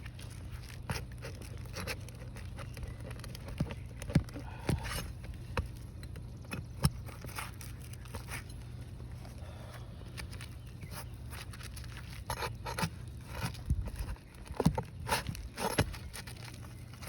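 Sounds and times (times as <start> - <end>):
taps and scrapes on roof shingles: 0.0 - 8.8, 10.1 - 17.0.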